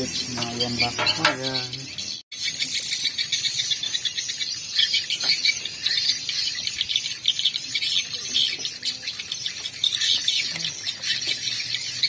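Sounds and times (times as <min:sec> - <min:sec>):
bird chirps: 0:00.0 - 0:12.0
insects chirring: 0:00.0 - 0:12.0.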